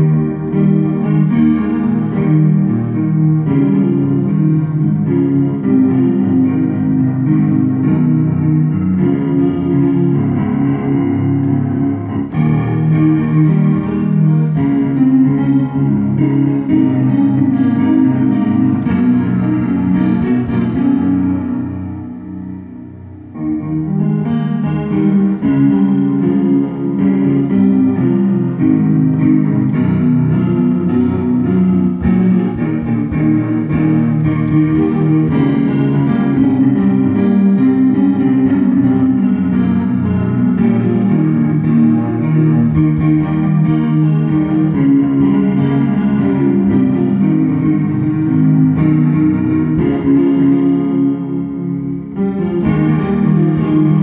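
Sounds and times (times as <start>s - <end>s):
digital piano playing: 0.0s - 54.0s.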